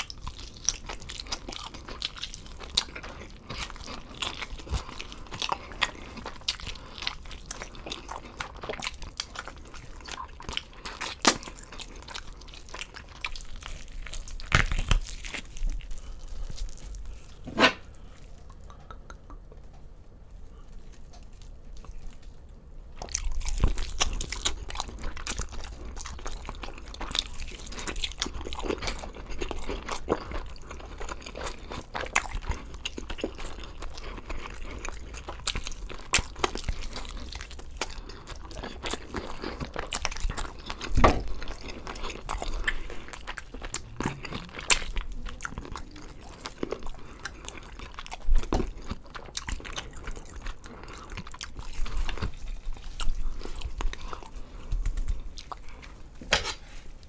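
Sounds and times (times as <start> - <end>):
chewing with crunching skin: 0.0 - 19.7, 20.5 - 57.0.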